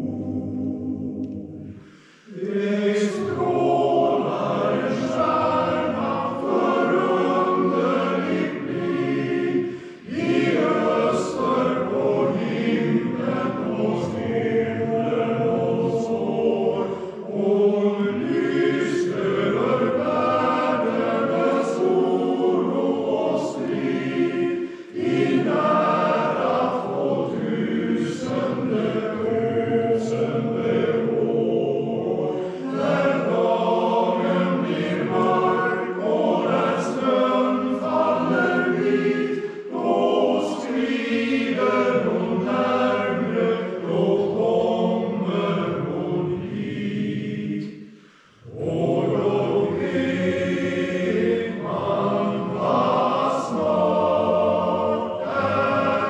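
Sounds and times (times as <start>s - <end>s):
men's choir singing: 0.0s - 56.0s.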